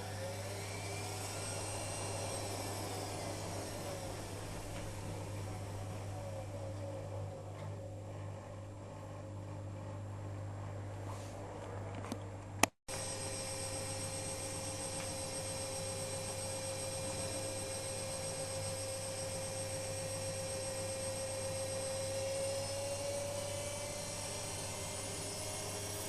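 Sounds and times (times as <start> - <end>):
washing machine whining: 0.0 - 11.9, 12.9 - 26.0.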